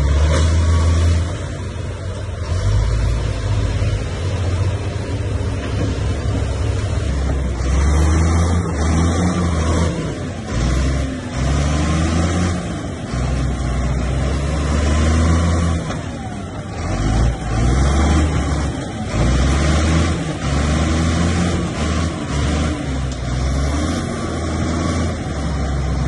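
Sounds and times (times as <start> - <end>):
bulldozer diesel engine under load: 0.0 - 26.0.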